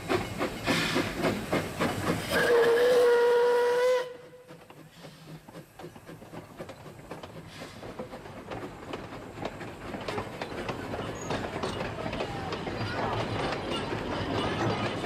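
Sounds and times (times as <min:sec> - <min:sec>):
train wheels clattering over rails: 0:00.0 - 0:03.1, 0:04.0 - 0:15.0.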